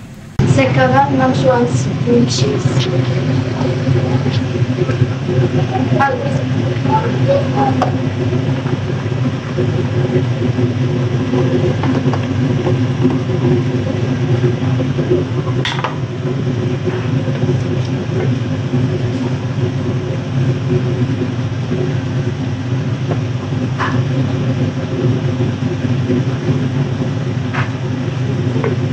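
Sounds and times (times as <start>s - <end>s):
kitchen fan humming: 0.0s - 28.9s.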